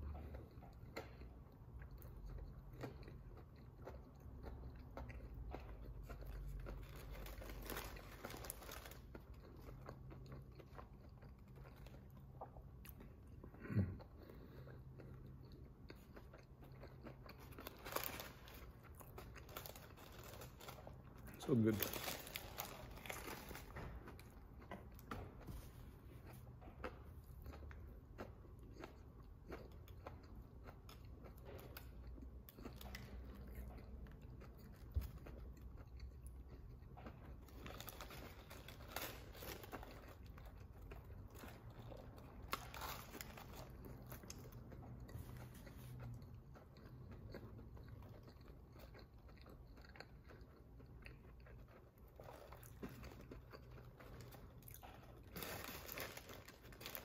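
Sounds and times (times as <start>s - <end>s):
chewing crispy food: 0.0s - 57.0s.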